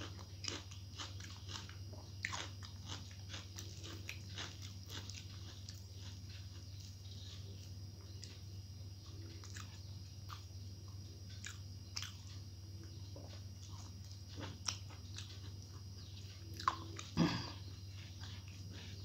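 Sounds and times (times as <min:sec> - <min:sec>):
person chewing and smacking: 0:00.0 - 0:19.0
steady low hum: 0:00.0 - 0:19.0.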